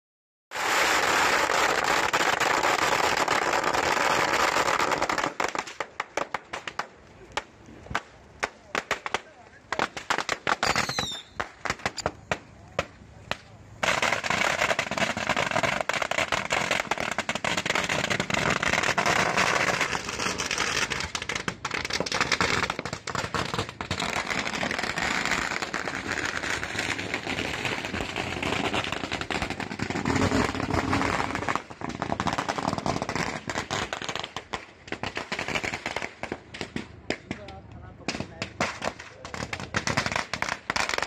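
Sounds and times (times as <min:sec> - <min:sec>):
firecrackers crackling: 0:00.5 - 0:41.0.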